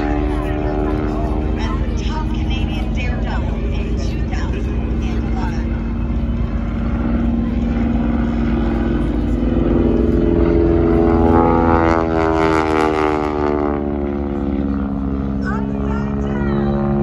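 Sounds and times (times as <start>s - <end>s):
biplane radial engine droning: 0.0s - 17.0s.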